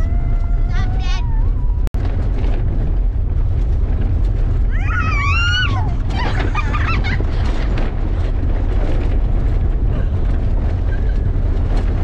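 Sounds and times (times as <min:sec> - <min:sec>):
pickup truck driving on rough road: 0:00.0 - 0:12.0.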